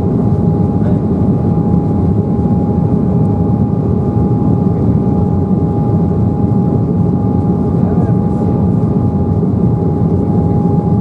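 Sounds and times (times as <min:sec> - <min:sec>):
airliner cabin engine rush: 0:00.0 - 0:11.0.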